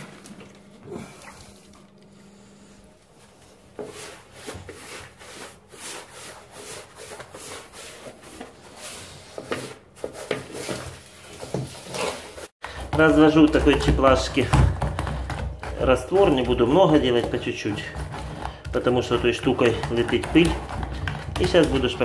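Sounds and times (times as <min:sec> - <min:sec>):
sponge rubbing plastered wall: 0:01.3 - 0:22.0.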